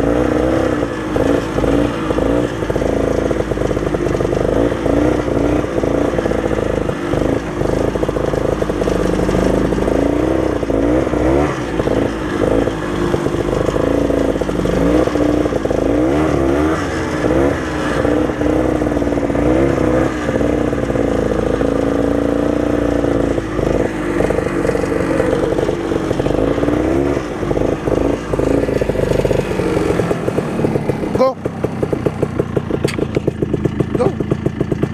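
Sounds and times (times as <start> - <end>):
snowmobile engine running: 0.0 - 34.9.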